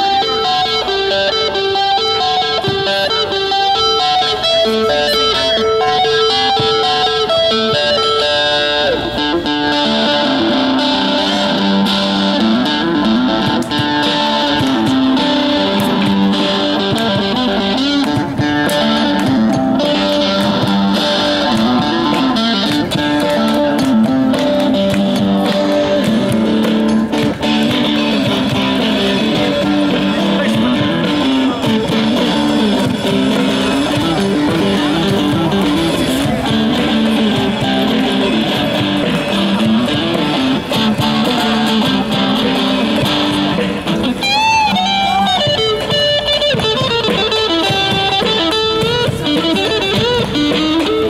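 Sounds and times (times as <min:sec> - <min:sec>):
loud electric guitar rock music: 0:00.0 - 0:51.0.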